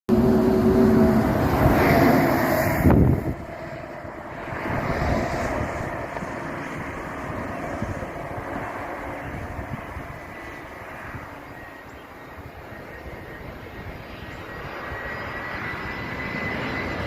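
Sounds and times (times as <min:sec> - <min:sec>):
jet engines rushing: 0:00.1 - 0:17.0.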